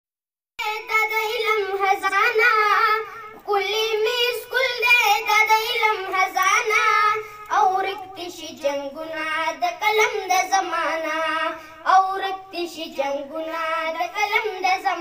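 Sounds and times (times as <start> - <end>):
boy singing into a microphone: 0.6 - 15.0.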